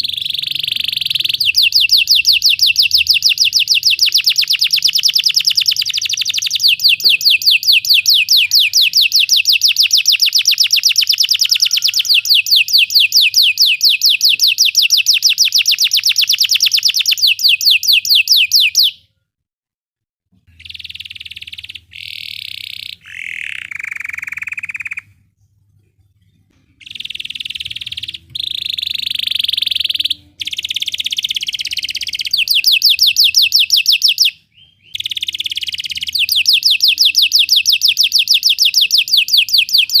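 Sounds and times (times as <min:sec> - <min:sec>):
canary singing: 0:00.0 - 0:19.1, 0:20.4 - 0:25.4, 0:26.6 - 0:40.0.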